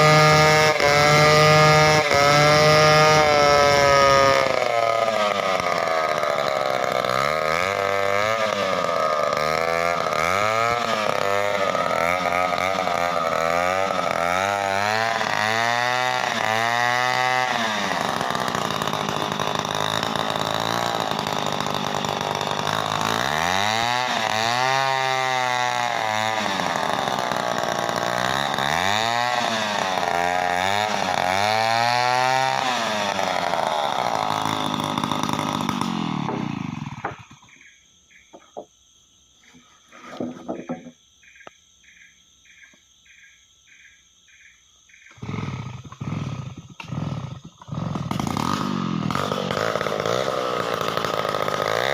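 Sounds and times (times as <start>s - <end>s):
chainsaw cutting timber: 0.0s - 37.6s, 39.5s - 41.0s, 45.1s - 51.9s.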